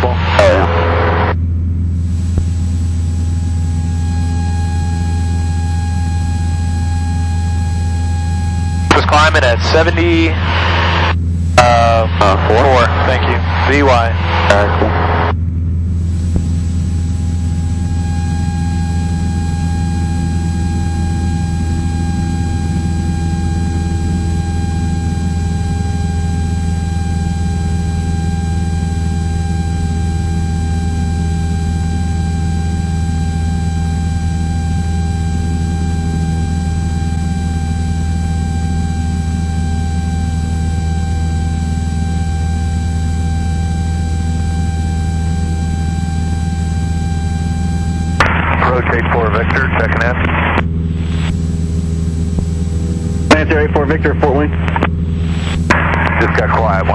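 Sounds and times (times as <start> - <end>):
aircraft engine and propeller drone: 0.0 - 56.9
thin steady whine: 0.0 - 56.9.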